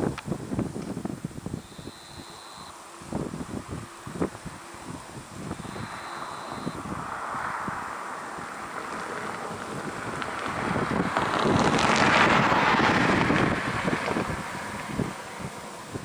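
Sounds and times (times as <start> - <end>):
wind buffeting microphone: 0.0 - 16.0
jet airliner approaching: 1.6 - 16.0.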